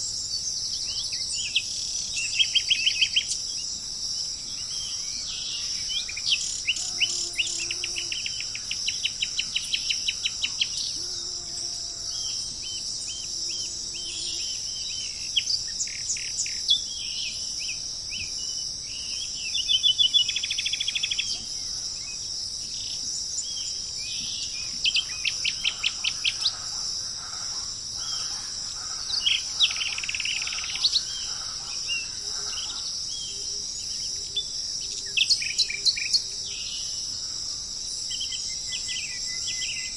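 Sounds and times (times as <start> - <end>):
high-pitched insect drone: 0.0 - 39.9
wild birds chirping and trilling: 0.0 - 39.9.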